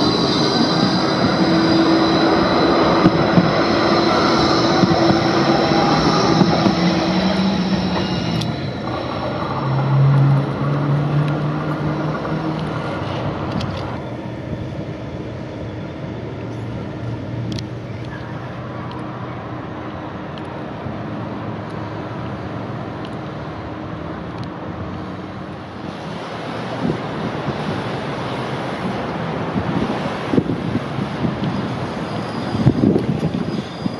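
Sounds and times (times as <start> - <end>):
electric tram passing: 0.0 - 33.9.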